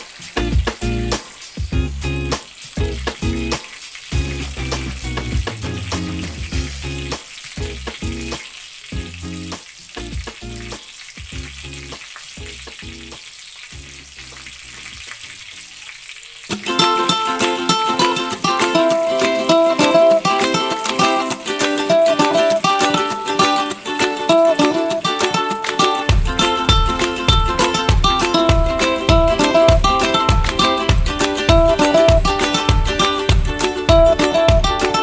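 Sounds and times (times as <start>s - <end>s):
food frying in hot oil: 0.0s - 35.0s.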